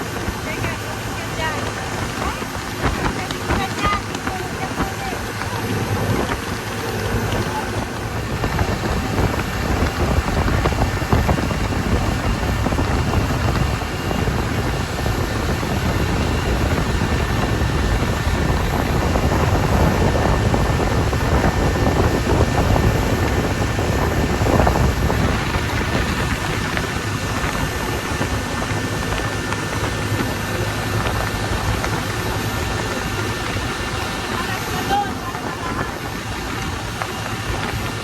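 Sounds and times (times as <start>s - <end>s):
boat engine rumble: 0.0s - 38.0s
water rushing: 0.0s - 38.0s
wind buffeting microphone: 0.0s - 38.0s.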